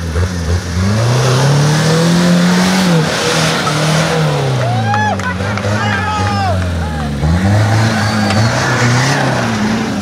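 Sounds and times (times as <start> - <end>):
truck engine revving under load: 0.0 - 10.0.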